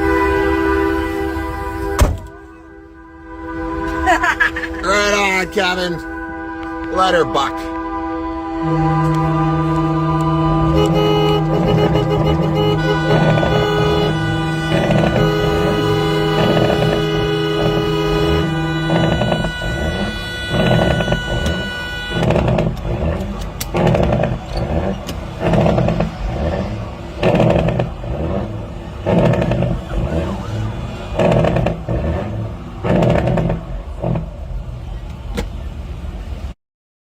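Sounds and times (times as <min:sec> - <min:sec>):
steady pitched tone: 0:00.0 - 0:34.6
vehicle running on highway: 0:00.0 - 0:36.6.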